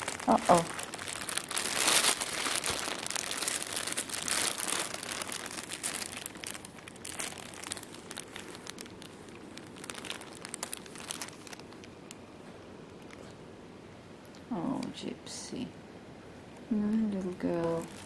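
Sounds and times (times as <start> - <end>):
plastic sheeting crinkling: 0.0 - 13.3, 16.7 - 18.0.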